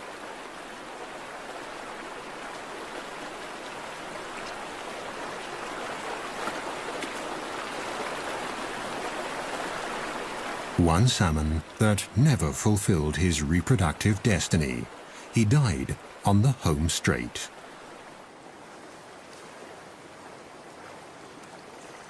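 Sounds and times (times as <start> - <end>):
stream water flowing: 0.0 - 22.0.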